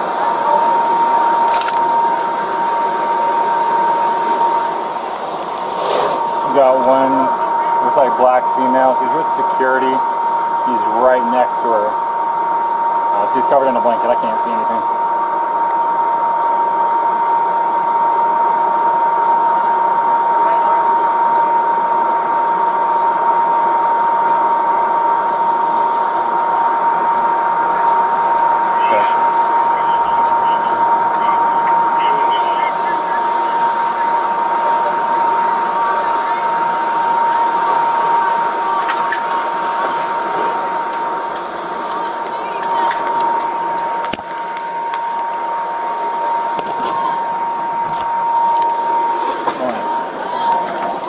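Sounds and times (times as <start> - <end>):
high-pitched tone: 0.0 - 51.0.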